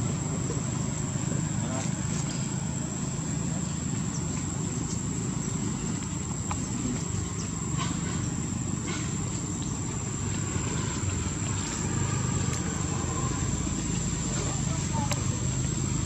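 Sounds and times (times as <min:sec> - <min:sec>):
insects whining: 0:00.0 - 0:16.0.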